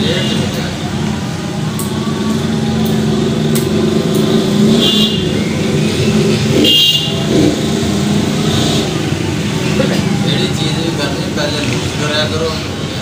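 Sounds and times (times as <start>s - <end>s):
street traffic engines running: 0.0s - 13.0s.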